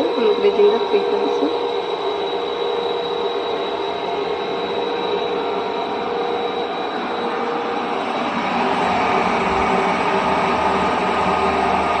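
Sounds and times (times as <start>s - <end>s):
electric motor whine: 0.0s - 12.0s.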